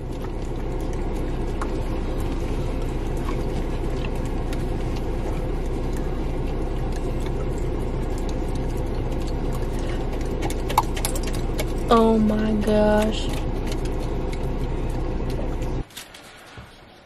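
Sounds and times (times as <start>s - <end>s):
dog licking plastic spoon: 0.0s - 15.8s
car engine running: 0.0s - 15.9s.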